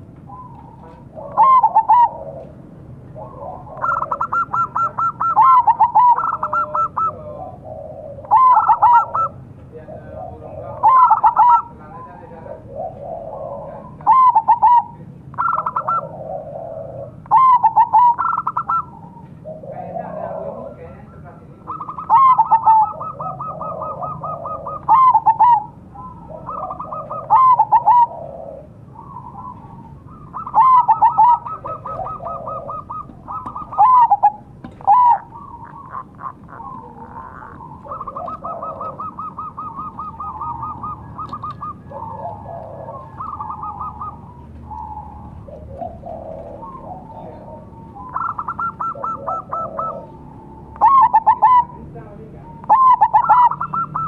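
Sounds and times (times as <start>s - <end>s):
dove cooing song: 0.0s - 54.0s.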